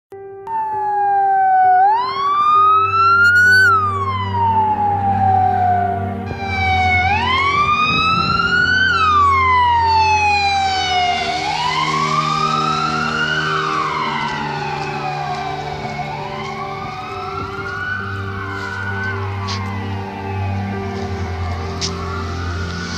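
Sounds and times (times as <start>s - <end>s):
ambulance siren wailing: 0.5s - 22.9s.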